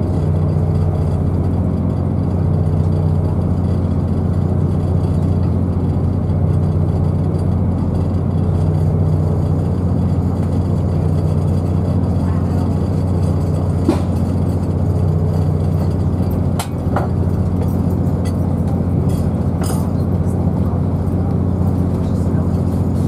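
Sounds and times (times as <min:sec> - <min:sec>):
train diesel engine drone: 0:00.0 - 0:23.0.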